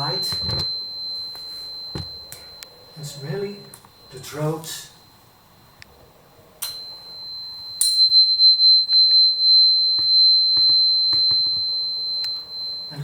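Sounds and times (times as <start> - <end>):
tuning fork ringing high tone: 0.0 - 13.0
tuning fork struck: 0.0 - 13.0.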